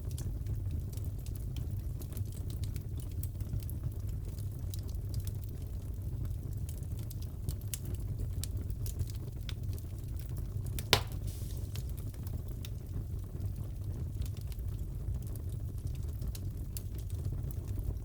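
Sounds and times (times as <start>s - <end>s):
fire low rumble: 0.0s - 18.0s
wood fire crackling and popping: 0.0s - 18.0s.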